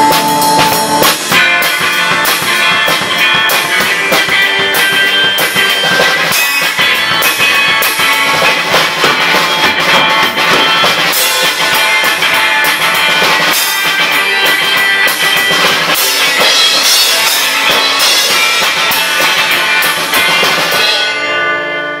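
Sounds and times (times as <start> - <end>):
live rock band playing: 0.0 - 22.0
ringing guitar chord: 0.0 - 22.0.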